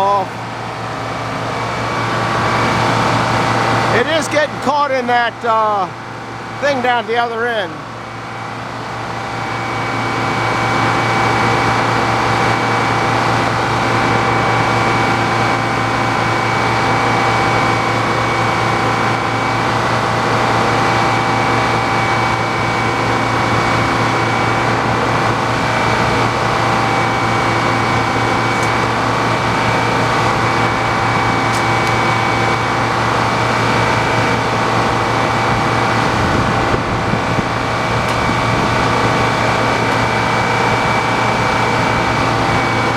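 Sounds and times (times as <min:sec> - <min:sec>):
sawmill saw cutting log: 0:00.0 - 0:08.4, 0:09.0 - 0:42.9.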